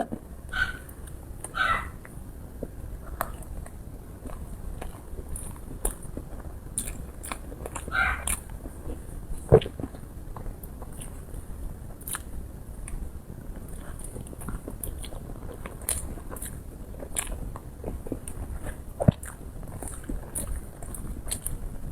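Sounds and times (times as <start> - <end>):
mouth chewing sounds: 0.0 - 13.0, 13.6 - 21.6.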